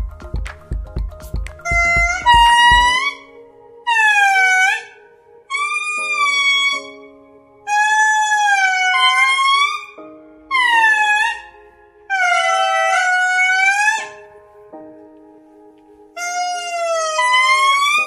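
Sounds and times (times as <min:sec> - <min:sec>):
indri wailing song: 0:01.6 - 0:14.3, 0:16.2 - 0:18.0.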